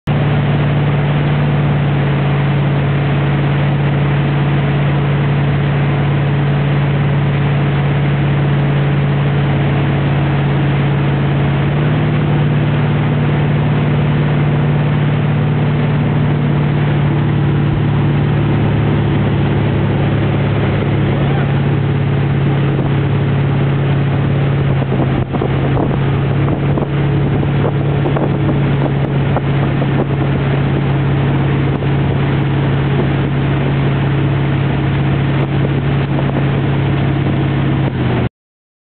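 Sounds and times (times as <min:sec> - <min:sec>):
motorboat engine drone: 0:00.0 - 0:38.3
wind and rushing water: 0:00.1 - 0:38.3.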